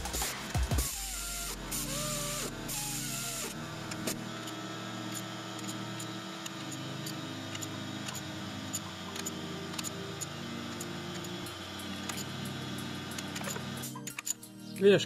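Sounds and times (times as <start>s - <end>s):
steady low hum: 0.0s - 14.8s
ratchet wrench ticking: 0.8s - 14.8s.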